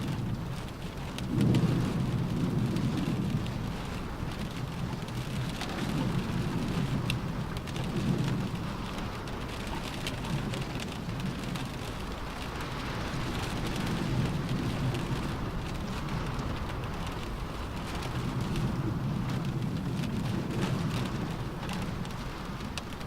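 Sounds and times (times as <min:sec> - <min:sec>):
rain drumming on car roof: 0:00.0 - 0:23.0.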